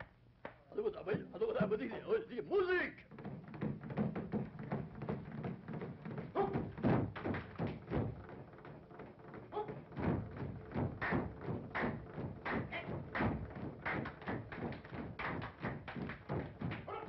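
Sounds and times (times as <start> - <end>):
drum thumps and knocks: 3.0 - 17.0.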